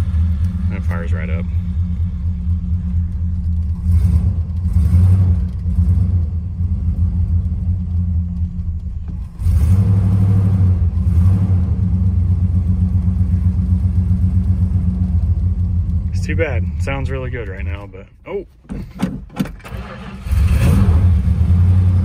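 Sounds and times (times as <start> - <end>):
car engine revving: 0.0 - 17.9, 19.4 - 22.0.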